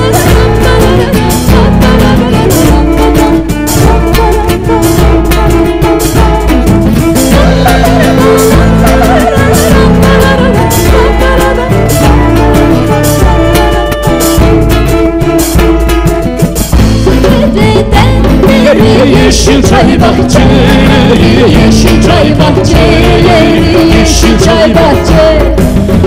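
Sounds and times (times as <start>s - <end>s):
folk ensemble playing: 0.0s - 26.0s
steady drumming: 0.0s - 26.0s.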